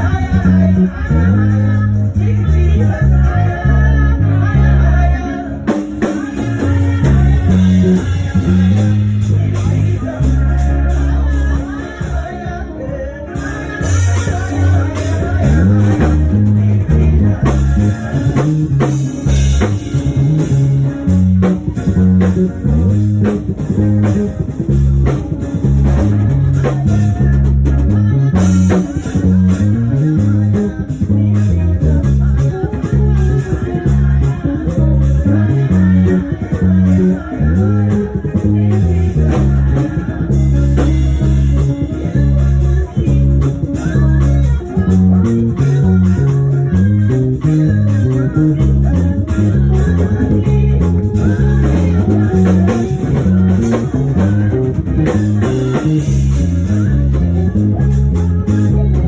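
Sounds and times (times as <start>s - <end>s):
electric bass line: 0.0s - 59.0s
guitar: 0.0s - 59.0s
drum kit: 4.6s - 59.0s.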